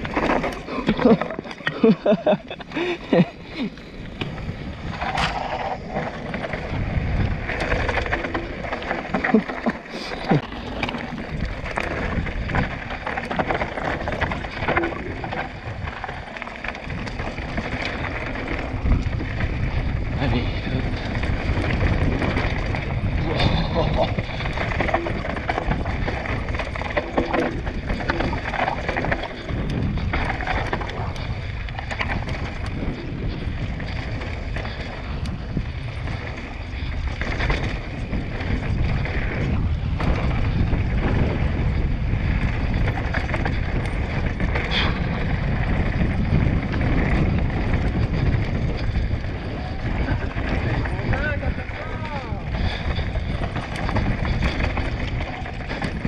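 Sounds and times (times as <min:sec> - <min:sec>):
bike knocks and rattles: 0:00.0 - 0:56.0
tyres rumbling on dirt and gravel: 0:00.0 - 0:56.0
wind buffeting microphone: 0:00.0 - 0:56.0.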